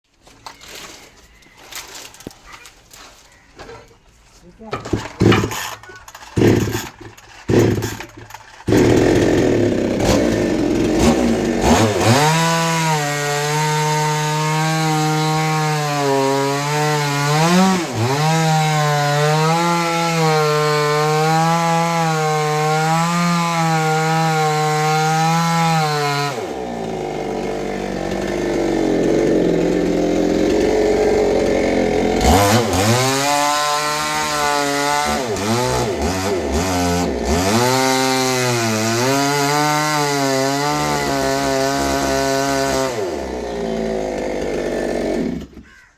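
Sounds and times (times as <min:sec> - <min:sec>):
chainsaw cutting wood: 0:04.7 - 0:45.9.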